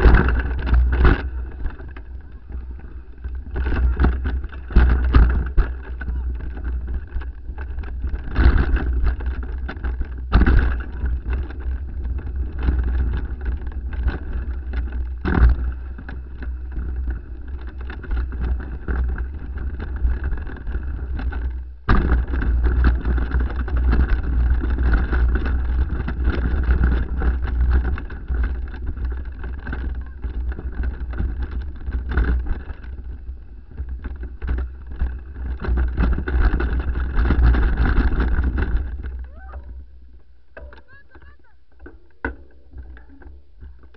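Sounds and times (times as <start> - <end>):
bike knocking and rattling: 0.0 - 43.9.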